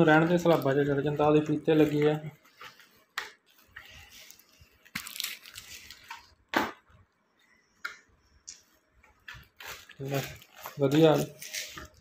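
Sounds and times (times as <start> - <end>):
plastic packets clicking and knocking: 0.0 - 6.8, 7.8 - 12.0.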